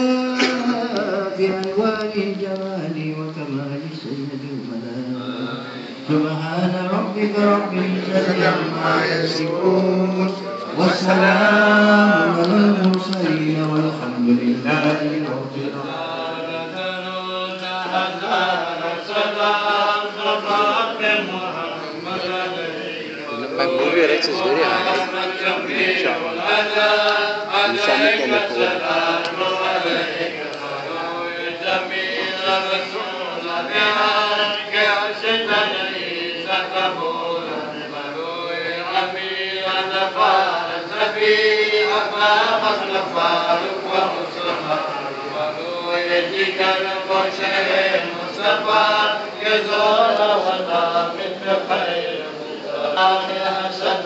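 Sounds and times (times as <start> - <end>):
men chanting: 5.2 - 54.0.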